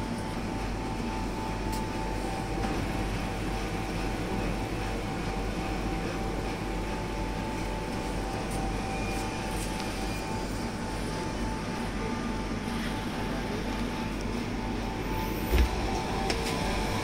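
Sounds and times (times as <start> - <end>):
machine hum and whir: 0.0 - 17.0.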